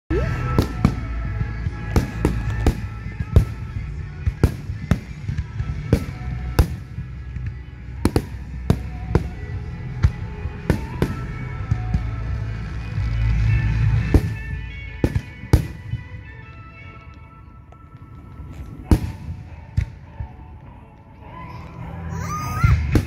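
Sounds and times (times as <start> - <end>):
music playing: 0.1 - 23.0.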